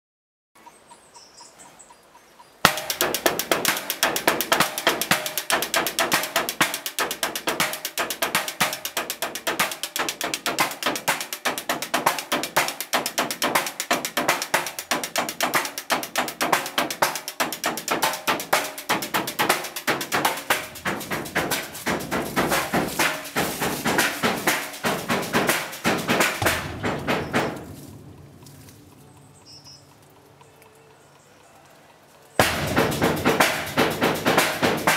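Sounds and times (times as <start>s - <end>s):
junk percussion beat on metal: 2.6s - 28.8s, 32.4s - 34.9s.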